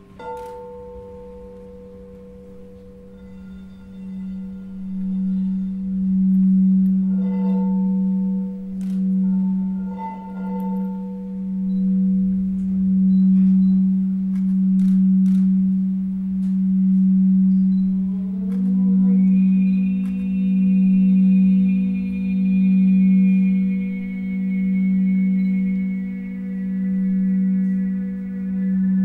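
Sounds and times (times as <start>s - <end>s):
singing bowl ringing: 0.0s - 29.0s.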